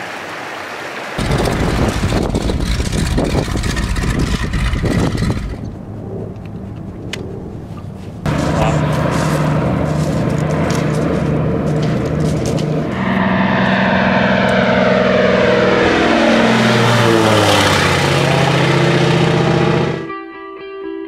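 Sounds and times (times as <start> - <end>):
propeller plane engine passing: 1.2 - 20.1.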